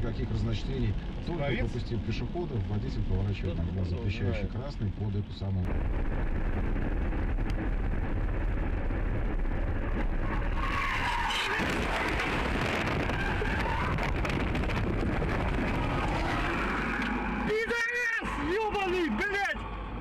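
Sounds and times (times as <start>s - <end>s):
car road noise: 0.0s - 20.0s.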